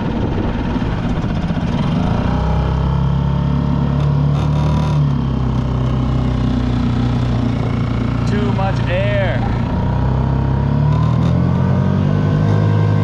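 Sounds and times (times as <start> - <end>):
outboard motor racing: 0.0 - 13.0.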